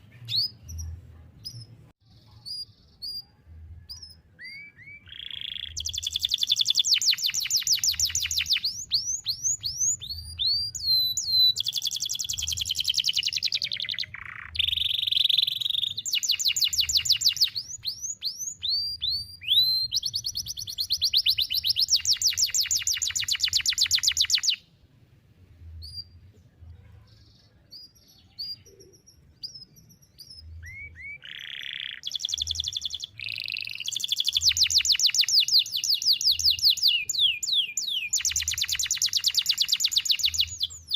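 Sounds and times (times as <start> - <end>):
canary singing trills: 0.0 - 24.7, 25.8 - 40.9.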